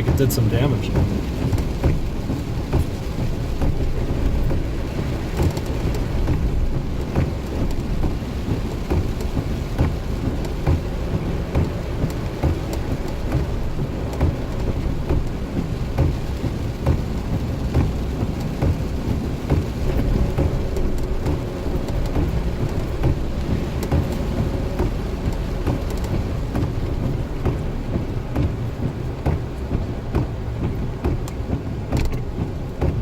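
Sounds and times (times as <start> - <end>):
rain and water spray on car: 0.0 - 33.0
road and engine rumble: 0.0 - 33.0.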